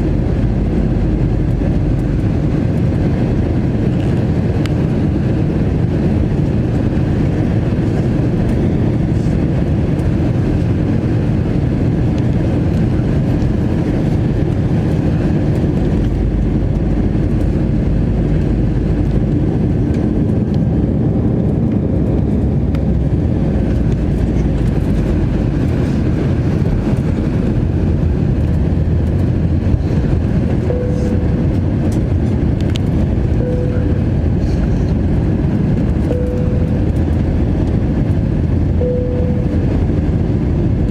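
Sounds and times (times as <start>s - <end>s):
airflow and jet engine hum: 0.0s - 40.9s.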